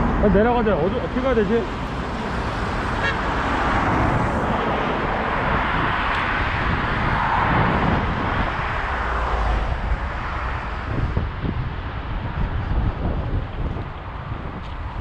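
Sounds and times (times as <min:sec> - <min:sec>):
road traffic roar: 0:00.0 - 0:15.0.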